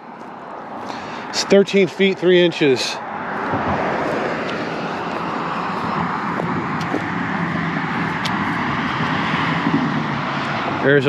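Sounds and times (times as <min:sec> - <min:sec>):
road traffic roar: 0:00.0 - 0:11.0.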